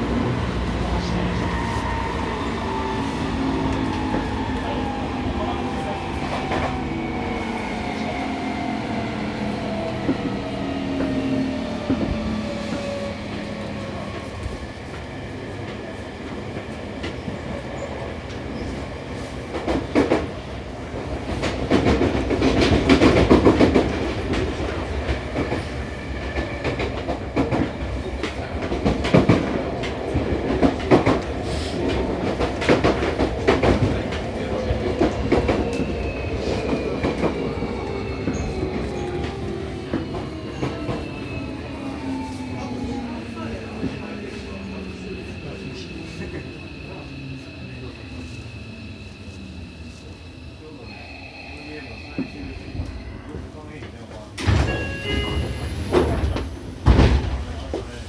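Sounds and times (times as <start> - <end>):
train rumble and clatter: 0.0 - 58.0.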